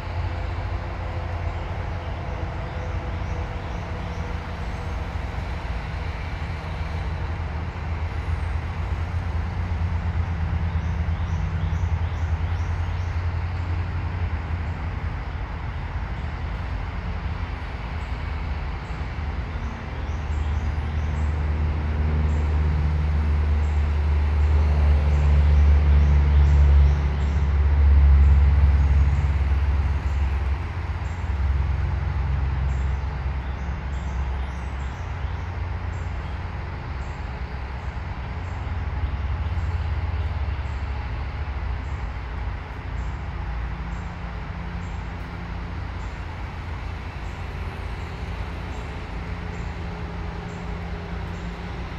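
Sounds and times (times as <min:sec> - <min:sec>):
low background rumble: 0:00.0 - 0:51.9.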